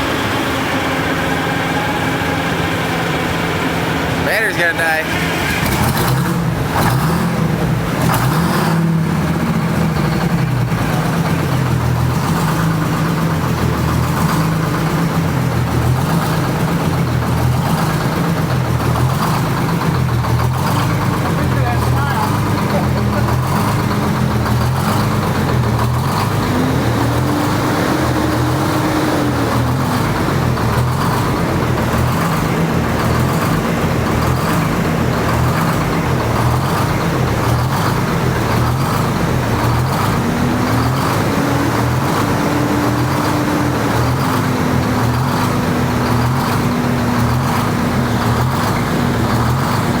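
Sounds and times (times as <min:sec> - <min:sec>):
diesel engine running and revving: 0:00.0 - 0:50.0.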